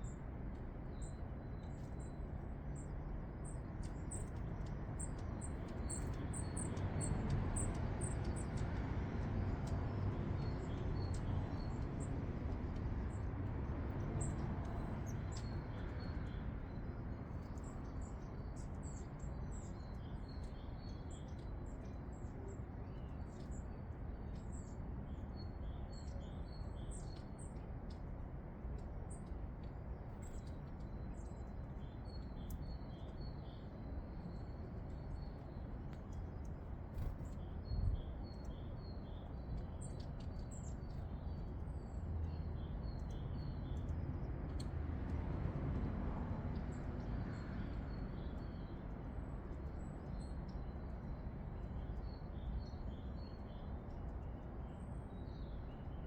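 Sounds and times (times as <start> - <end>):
low rumbling background noise: 0.0 - 56.0
songbirds chirping: 0.0 - 56.0.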